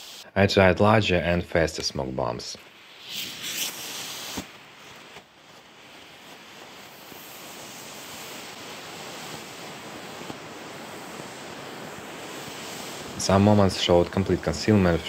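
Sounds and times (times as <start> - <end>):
smoke bombs hissing: 0.0 - 0.3, 1.6 - 15.0.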